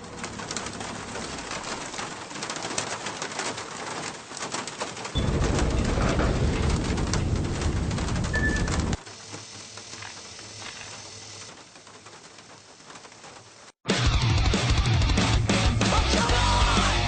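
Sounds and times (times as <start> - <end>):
crackling background noise: 0.0 - 13.8.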